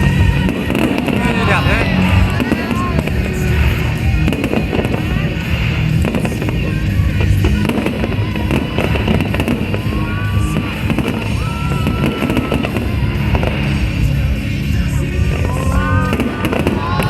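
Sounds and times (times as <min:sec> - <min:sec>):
fireworks bursting and crackling: 0:00.0 - 0:17.0
loud music: 0:00.0 - 0:17.0.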